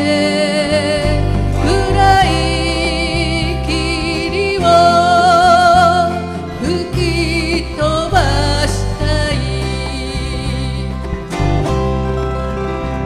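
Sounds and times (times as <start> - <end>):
woman singing with vibrato: 0.0 - 11.4
electric bass: 0.0 - 13.0
strummed acoustic guitar: 0.0 - 13.0.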